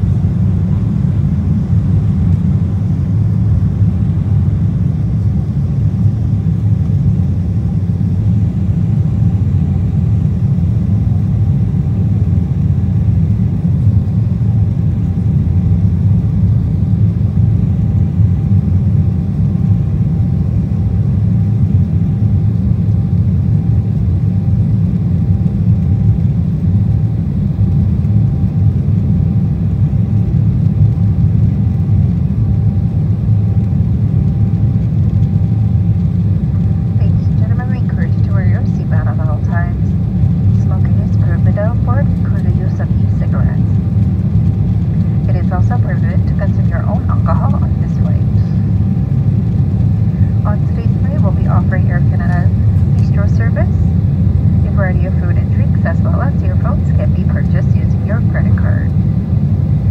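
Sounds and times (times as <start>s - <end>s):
airplane cabin low rumble: 0.0s - 59.9s
faint steady whine: 0.0s - 59.9s.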